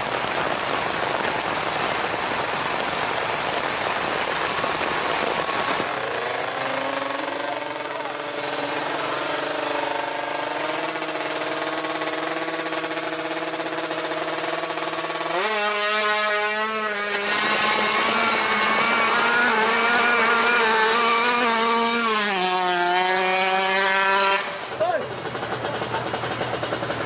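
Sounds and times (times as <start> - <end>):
motorcycle engines revving high: 0.0 - 27.0
wavering engine tone: 5.3 - 27.0.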